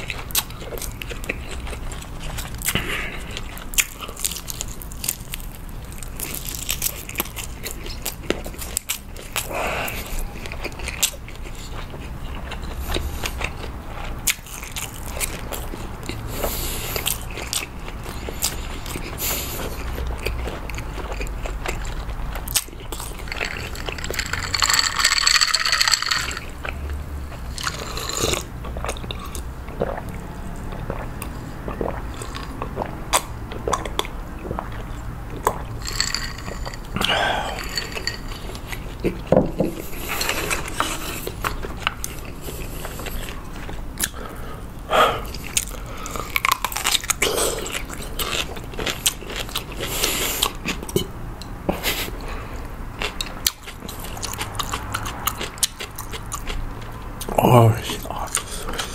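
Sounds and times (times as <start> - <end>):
chewing: 0.0 - 58.9.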